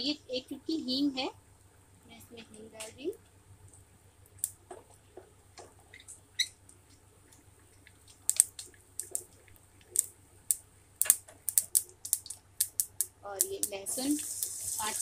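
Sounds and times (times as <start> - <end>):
seeds popping in hot oil: 2.8 - 15.0.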